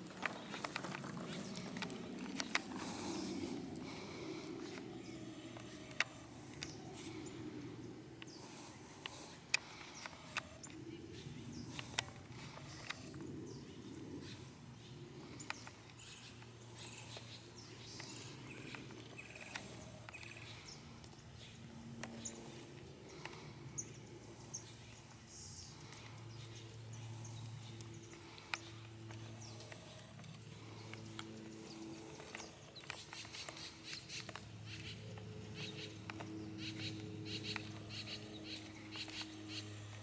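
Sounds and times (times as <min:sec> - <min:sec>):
faint low hum: 0:00.0 - 0:40.0
small birds chirping: 0:00.0 - 0:40.0.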